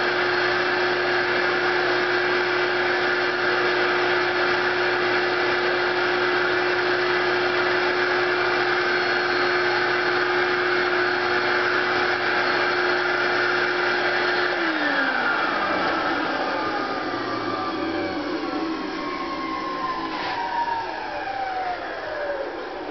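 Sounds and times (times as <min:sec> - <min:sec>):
vacuum cleaner whining: 0:00.0 - 0:22.9.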